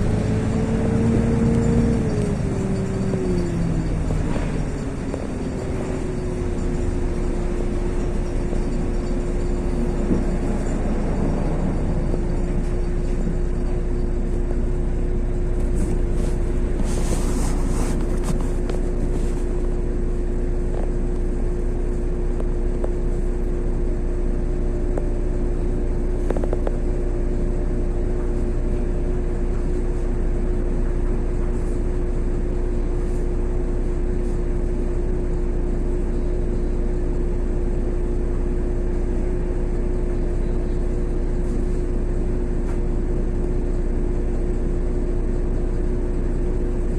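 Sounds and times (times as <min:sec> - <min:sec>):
bus engine and road rumble: 0:00.0 - 0:46.9
constant whine: 0:00.0 - 0:46.9.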